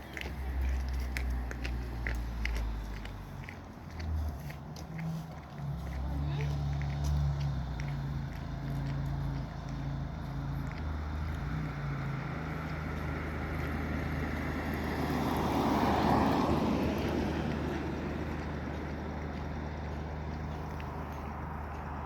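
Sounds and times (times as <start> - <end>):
vehicle passing by: 0.0 - 22.0.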